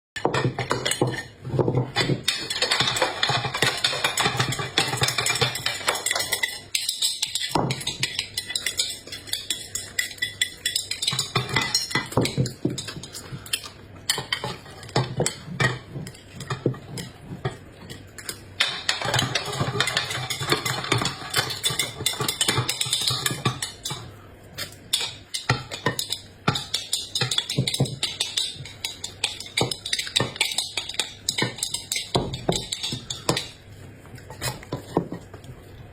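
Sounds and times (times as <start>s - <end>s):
utensils and dishes clattering: 0.2s - 35.9s.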